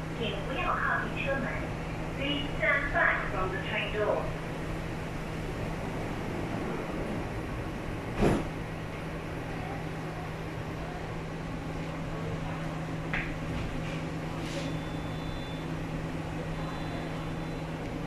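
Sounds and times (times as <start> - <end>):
train carriage interior hum: 0.0 - 18.0.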